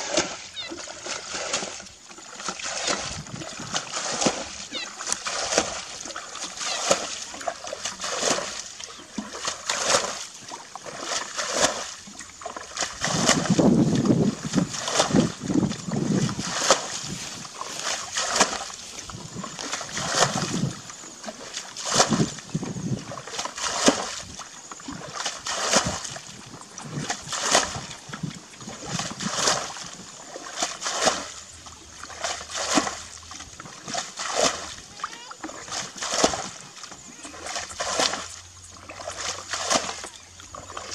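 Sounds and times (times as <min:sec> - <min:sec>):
muddy water splashing: 0:00.0 - 0:40.9.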